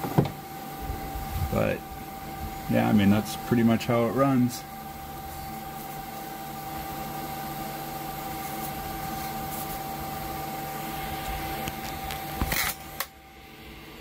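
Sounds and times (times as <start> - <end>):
stepper motor whine: 0.0 - 14.0.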